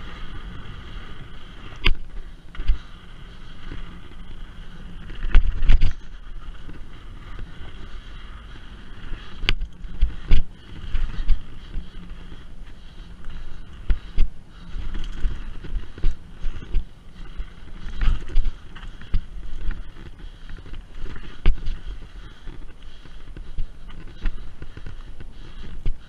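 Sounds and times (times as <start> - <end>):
bike knocking and rattling: 0.0 - 26.0
bike tyres rumbling on dirt: 0.0 - 26.0.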